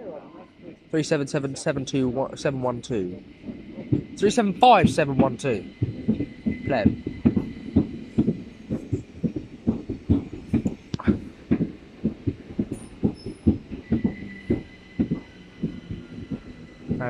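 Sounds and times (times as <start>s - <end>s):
train thudding over rails: 0.9s - 17.0s.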